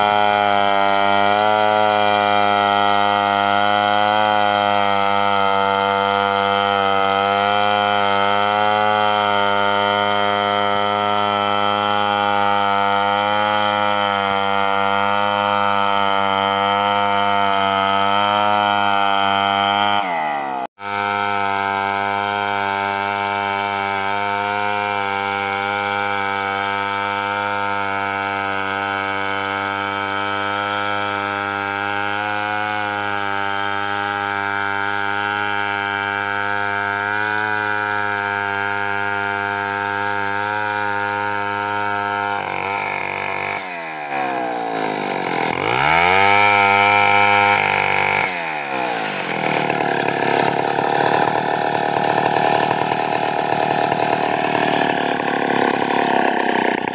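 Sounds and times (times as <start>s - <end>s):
chainsaw cutting through log: 0.0s - 56.9s.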